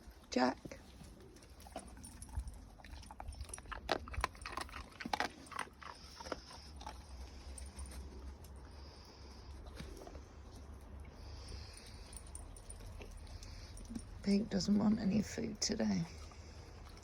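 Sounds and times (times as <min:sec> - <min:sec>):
dogs crunching treats: 0:00.0 - 0:17.0.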